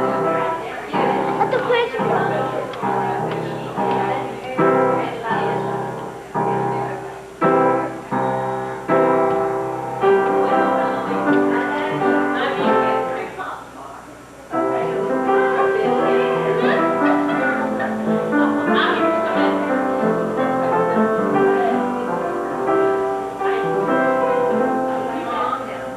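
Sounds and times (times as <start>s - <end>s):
slow piano chords: 0.0s - 13.8s, 14.4s - 25.9s.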